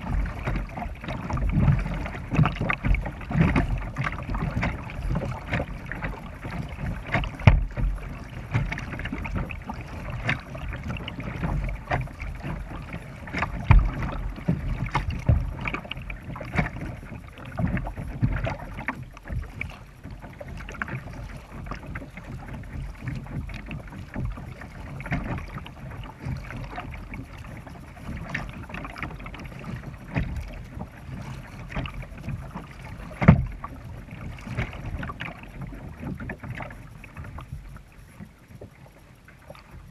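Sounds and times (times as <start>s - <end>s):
paddle strokes splashing: 0.0s - 39.9s
water washing along hull: 0.0s - 39.9s.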